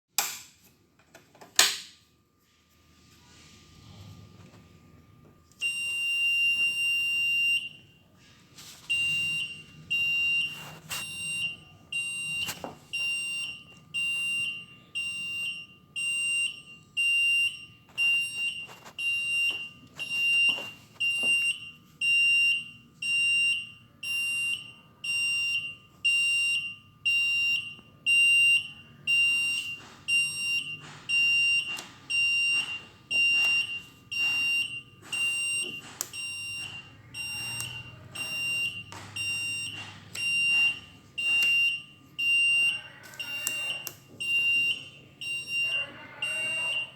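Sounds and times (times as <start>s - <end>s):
ventilator alarm tone and beeps: 5.4s - 46.9s.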